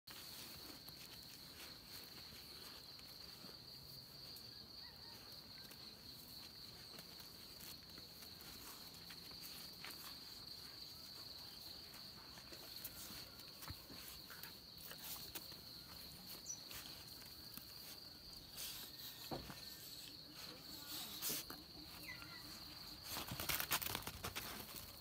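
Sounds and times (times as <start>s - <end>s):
dogs scuffling on dirt: 0.1s - 25.0s
insect chorus trilling: 0.2s - 25.0s.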